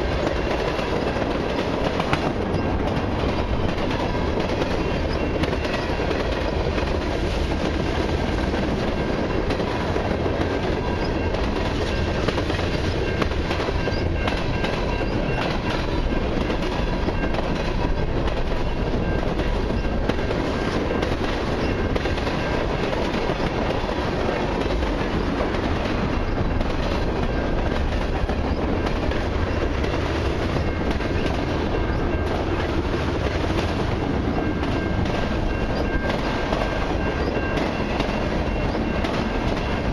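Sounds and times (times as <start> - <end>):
train wheels on rail: 0.0 - 39.9.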